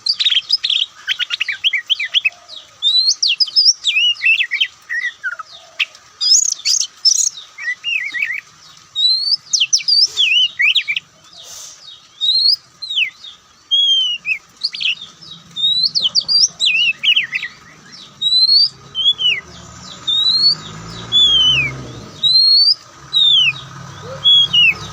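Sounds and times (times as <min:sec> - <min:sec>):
bird singing whistled notes: 0:00.0 - 0:05.6, 0:06.2 - 0:11.1, 0:11.8 - 0:24.9.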